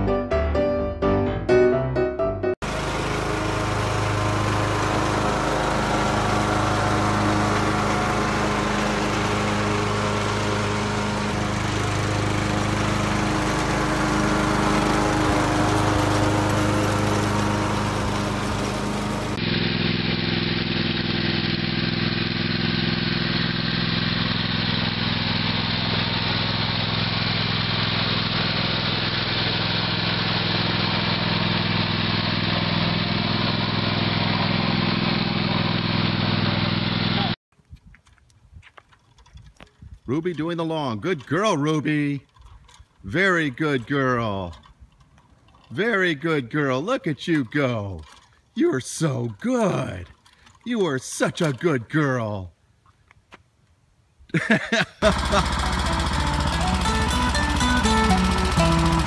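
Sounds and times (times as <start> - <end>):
duller lower mower engine: 2.6 - 37.4, 38.9 - 52.4, 54.4 - 59.0
riding mower engine running: 2.6 - 37.4, 38.9 - 52.4, 54.6 - 59.0.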